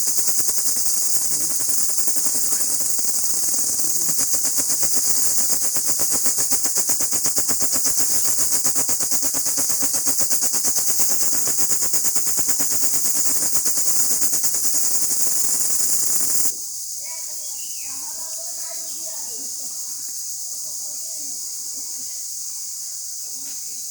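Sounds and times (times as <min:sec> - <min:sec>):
insect chorus buzzing: 0:00.0 - 0:23.9.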